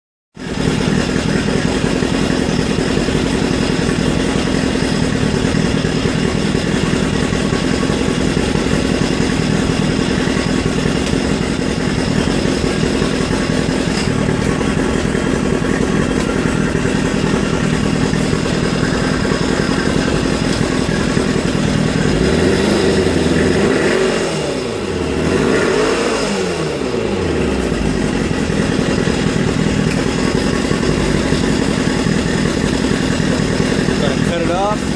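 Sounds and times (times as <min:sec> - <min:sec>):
outboard motor running: 0:00.3 - 0:34.9.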